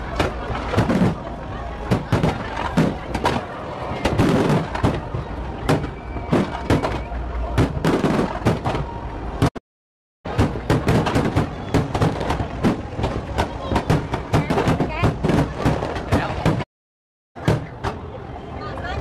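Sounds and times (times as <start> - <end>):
fireworks bangs and crackles: 0.0 - 9.6, 10.3 - 16.7.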